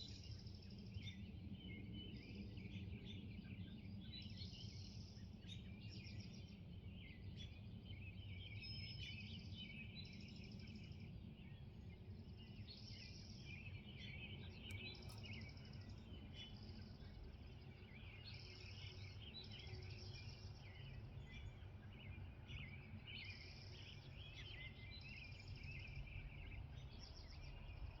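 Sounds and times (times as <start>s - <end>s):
high bird song: 0.0s - 28.0s.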